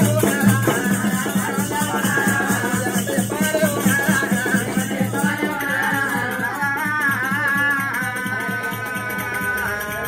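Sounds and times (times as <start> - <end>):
fast drum beat: 0.0 - 10.0.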